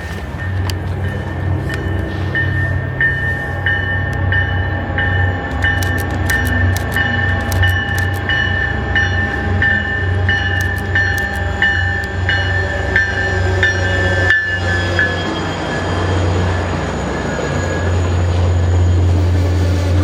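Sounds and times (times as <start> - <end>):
train bell ringing: 0.0 - 19.3
train engine rumbling: 0.0 - 20.0.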